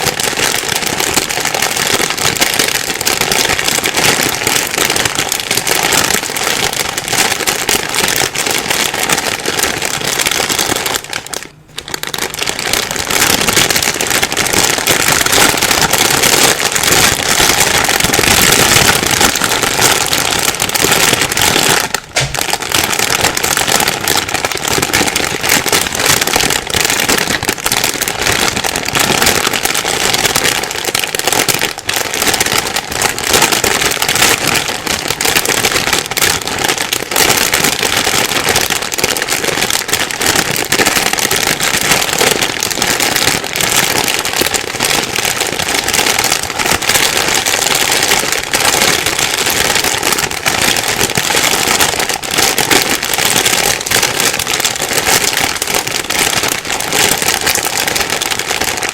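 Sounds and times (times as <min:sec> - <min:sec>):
plastic bag rustling: 0:00.0 - 0:58.9.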